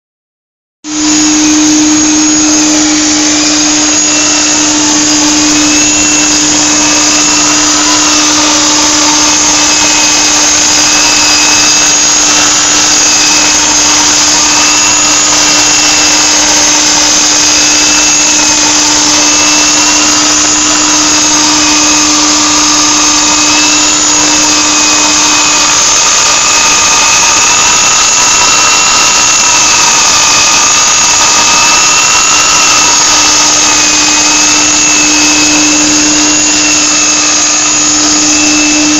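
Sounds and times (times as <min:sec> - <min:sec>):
high motor whine: 0:00.8 - 0:38.9
sander grinding concrete: 0:00.8 - 0:38.9.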